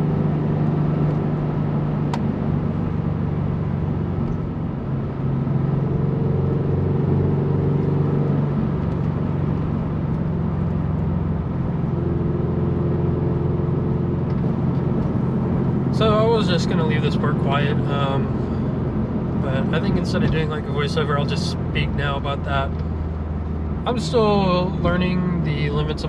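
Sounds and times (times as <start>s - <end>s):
car engine cruising: 0.0s - 26.0s
road noise: 0.0s - 26.0s.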